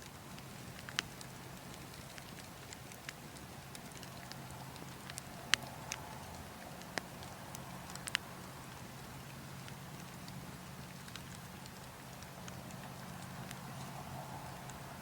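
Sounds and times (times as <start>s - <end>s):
burning logs crackling: 0.0s - 15.0s
low wind rumble: 1.4s - 15.0s.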